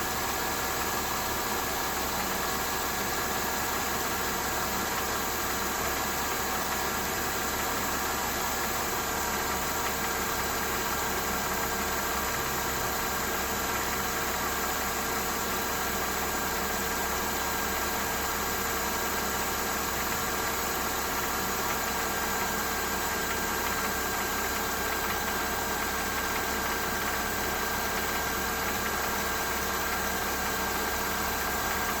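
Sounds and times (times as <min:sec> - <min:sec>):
car engine idling: 0:00.0 - 0:32.0
engine ticking knocking noise: 0:00.0 - 0:32.0.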